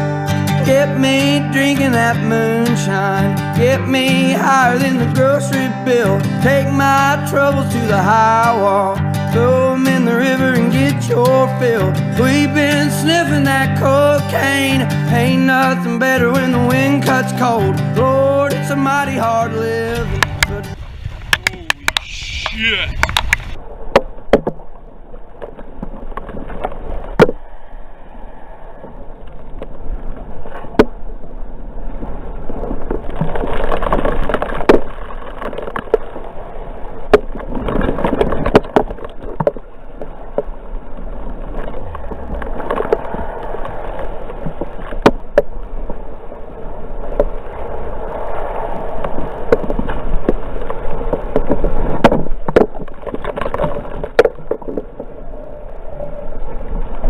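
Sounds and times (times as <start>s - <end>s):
water rushing around kayak: 0.0s - 57.0s.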